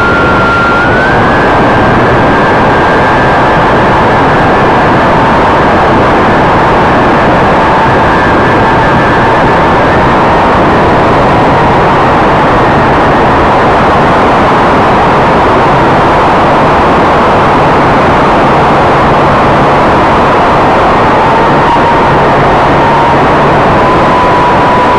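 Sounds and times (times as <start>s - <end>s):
faint high whine: 0.0s - 24.9s
model plane propellers rushing: 0.0s - 24.9s.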